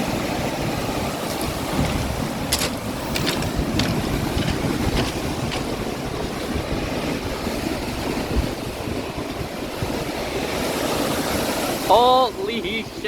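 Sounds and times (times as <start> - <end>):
waves crashing: 0.0 - 13.0
wind buffeting microphone: 0.0 - 13.0.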